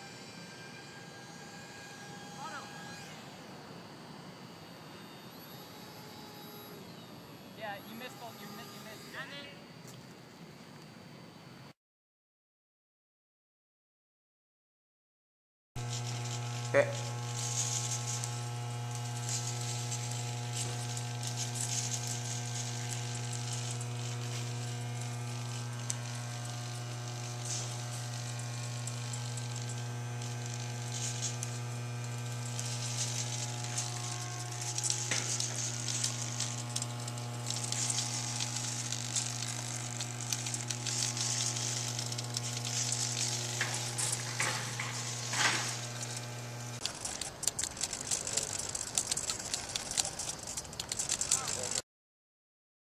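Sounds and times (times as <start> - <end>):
crackling hiss: 0.0 - 11.6, 15.8 - 51.8
steady low hum: 0.0 - 11.7, 15.8 - 51.8.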